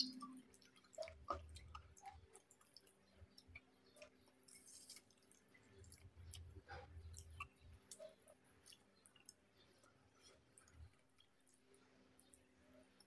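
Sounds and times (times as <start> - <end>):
faint chewing with mouth clicks: 0.0 - 13.0.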